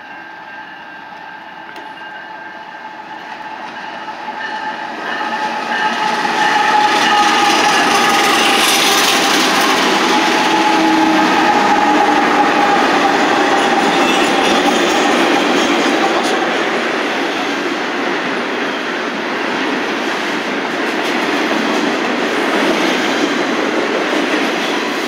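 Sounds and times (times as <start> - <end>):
diesel locomotives passing: 0.0 - 25.0.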